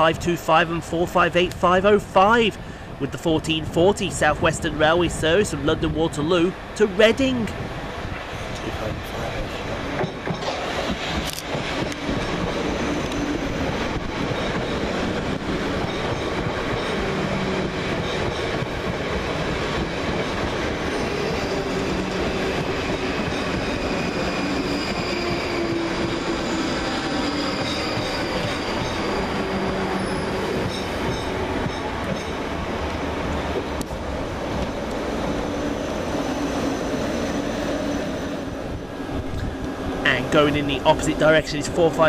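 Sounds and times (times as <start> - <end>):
train wheels on rail: 2.6 - 42.0.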